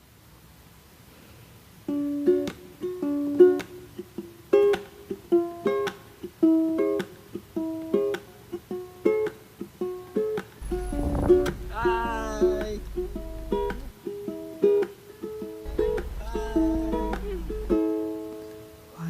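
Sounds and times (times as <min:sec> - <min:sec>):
plucked-string instrumental melody: 0:01.9 - 0:18.8.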